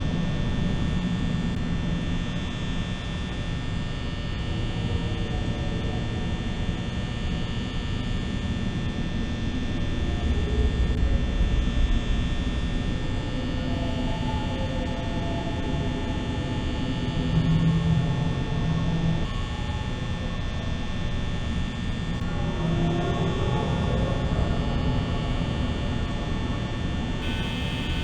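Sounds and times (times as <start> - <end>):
high electrical whine: 0.0 - 28.0
low hum and rumble: 0.0 - 28.0.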